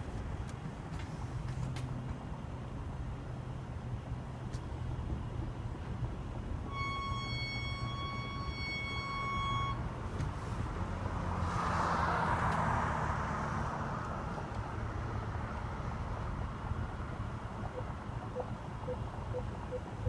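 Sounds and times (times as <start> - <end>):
car moving with low rumble: 0.0 - 20.0.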